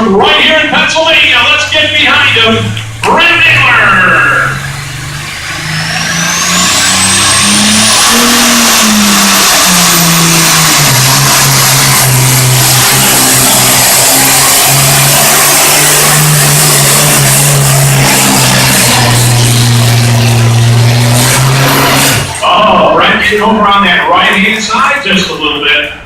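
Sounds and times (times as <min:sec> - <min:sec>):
diesel tractor engine running: 0:00.0 - 0:26.0
turbocharger whine: 0:00.0 - 0:26.0.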